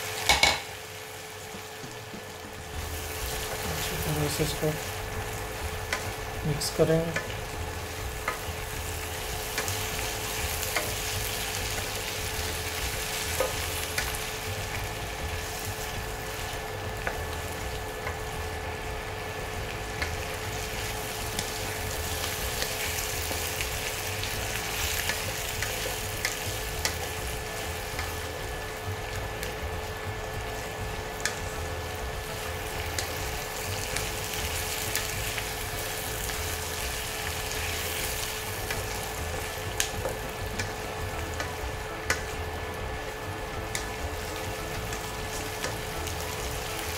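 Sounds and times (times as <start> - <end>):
food sizzling in a wok: 0.0 - 46.9.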